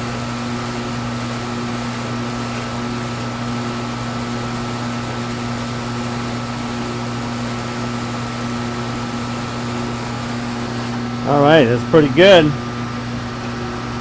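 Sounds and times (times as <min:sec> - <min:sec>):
machine tool motor hum: 0:00.0 - 0:14.0.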